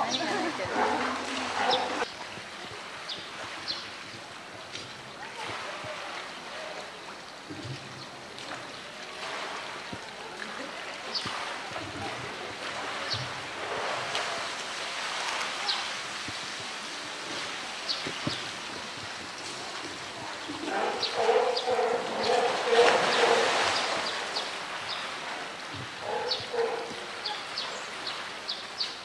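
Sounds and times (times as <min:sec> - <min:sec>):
water splashing: 0:00.0 - 0:29.0.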